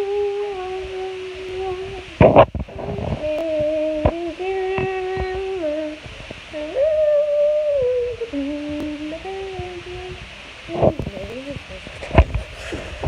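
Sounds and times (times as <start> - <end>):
person humming: 0.0 - 11.7.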